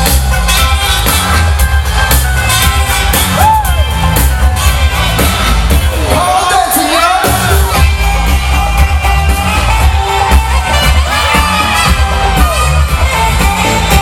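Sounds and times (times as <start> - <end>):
crowd whooping and yelling: 0.0 - 14.0
loud live band music: 0.0 - 14.0.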